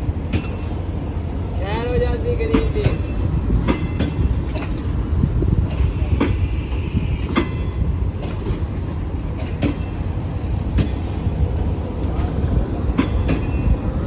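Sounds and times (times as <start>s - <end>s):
train rumbling on track: 0.0s - 14.0s
wheels clacking over rail joints: 0.1s - 14.0s.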